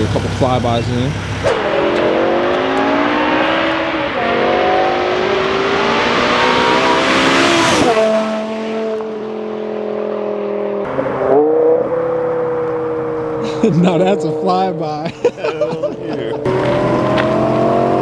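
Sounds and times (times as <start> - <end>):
car accelerating hard past: 0.0 - 14.8, 16.0 - 18.0.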